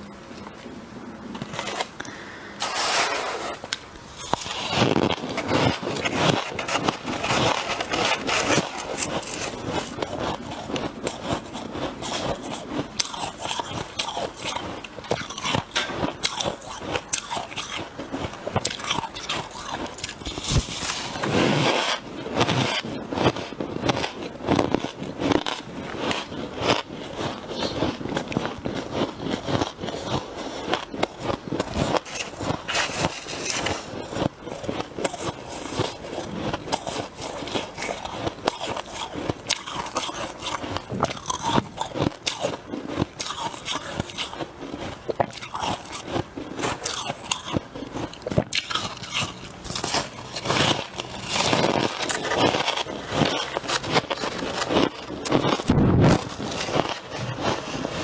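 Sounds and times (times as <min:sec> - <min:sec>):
chewing frost crunches: 0:00.3 - 0:58.0.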